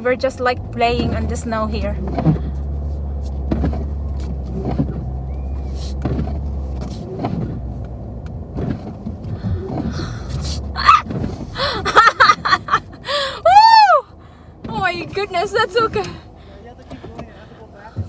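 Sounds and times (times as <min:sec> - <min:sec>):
car engine running under load: 0:00.0 - 0:18.0.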